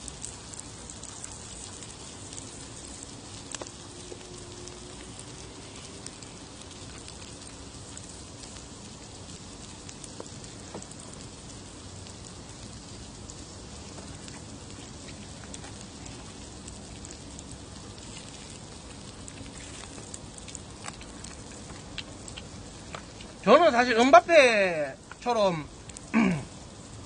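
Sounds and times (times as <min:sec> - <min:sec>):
meat sizzling on a grill pan: 0:00.0 - 0:27.0.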